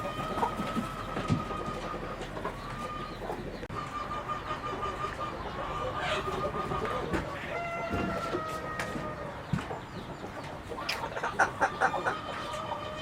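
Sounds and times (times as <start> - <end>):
long high-pitched chicken calls: 0.0 - 9.4, 11.2 - 13.0
chickens clucking: 0.0 - 13.0.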